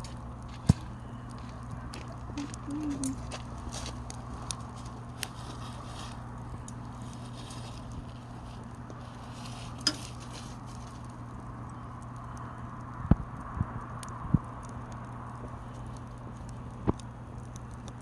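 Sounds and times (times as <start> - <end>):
faint low hum: 0.0 - 18.0
fire hissing: 0.0 - 18.0
firewood crackling and popping: 0.0 - 18.0.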